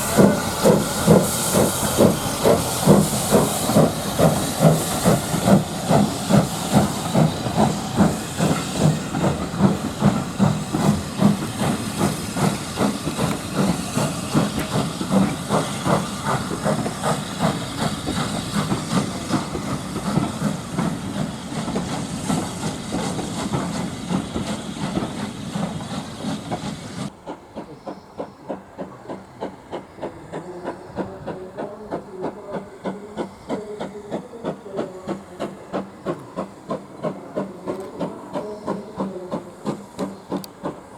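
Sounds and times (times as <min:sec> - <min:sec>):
loud hissing steam: 0:00.0 - 0:40.9
steam locomotive exhaust beats: 0:00.0 - 0:40.9.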